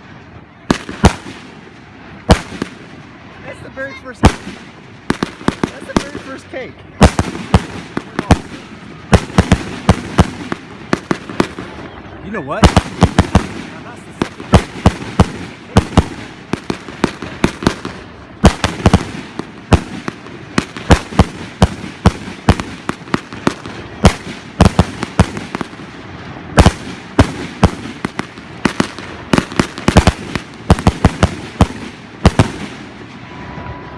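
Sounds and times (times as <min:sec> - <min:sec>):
firework bangs and pops: 0:00.6 - 0:03.2, 0:04.2 - 0:06.4, 0:07.0 - 0:33.2.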